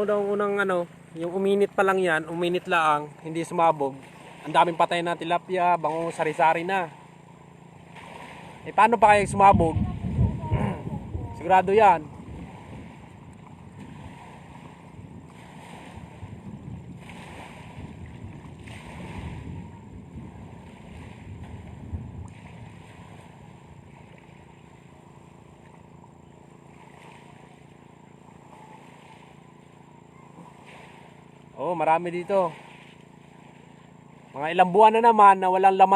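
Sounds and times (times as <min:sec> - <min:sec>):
small waves washing in: 0:00.0 - 0:35.9
wind: 0:00.0 - 0:35.9.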